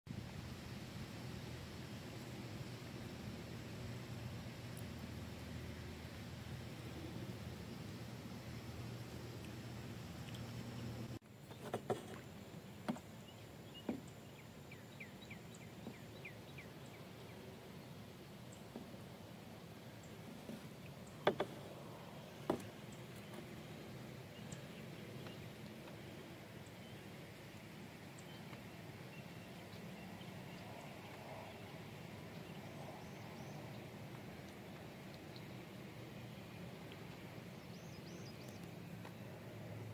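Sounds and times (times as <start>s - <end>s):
faint outdoor background noise: 0.1s - 39.9s.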